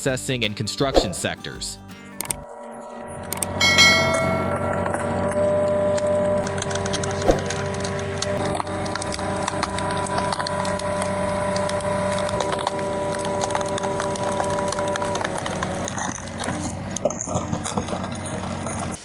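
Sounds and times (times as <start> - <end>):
drill machine whine: 2.5 - 19.0.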